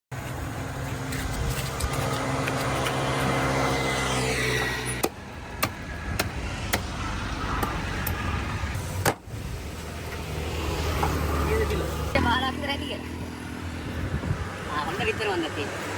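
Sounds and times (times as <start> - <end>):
vehicle engine humming: 0.1 - 15.9.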